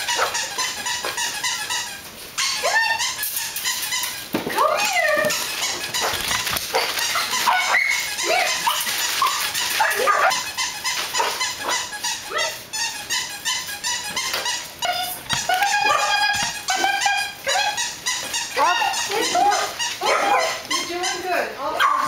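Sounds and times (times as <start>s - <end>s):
puppies yipping and barking: 0.0s - 22.0s.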